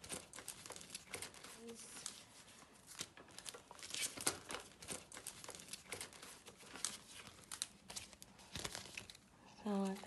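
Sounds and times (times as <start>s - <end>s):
banknotes and paper rustling: 0.0s - 10.0s.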